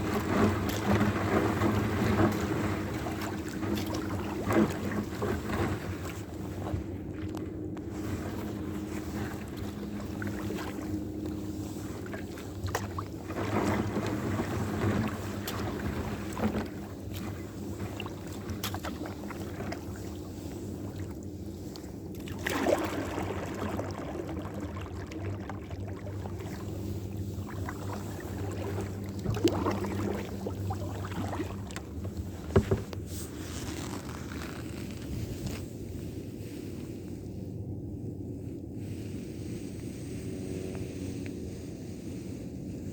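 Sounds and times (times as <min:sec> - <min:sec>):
water sloshing around kayak: 0:00.0 - 0:42.9.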